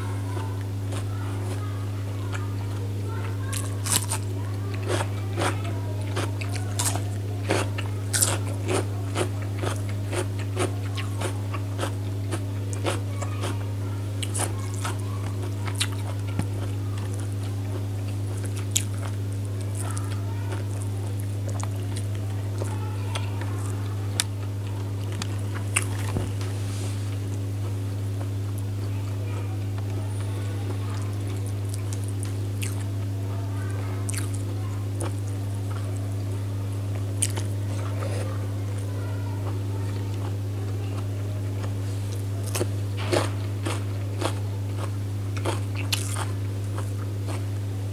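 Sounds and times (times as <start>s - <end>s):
steady low hum: 0.0s - 47.9s
person chewing food: 0.2s - 1.6s, 2.3s - 13.6s, 14.2s - 29.0s, 30.7s - 33.0s, 34.0s - 35.9s, 37.1s - 40.4s, 41.0s - 47.6s.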